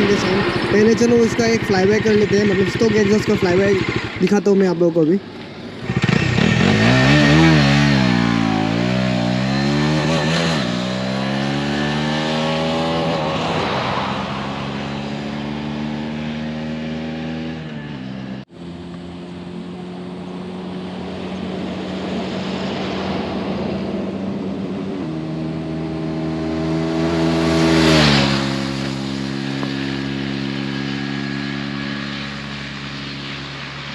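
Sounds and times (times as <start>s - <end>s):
motorcycle engine riding by: 0.0s - 33.9s.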